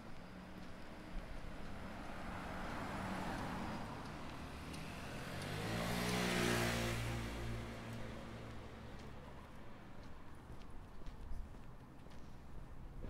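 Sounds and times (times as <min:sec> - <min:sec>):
cars passing: 0:00.0 - 0:11.1.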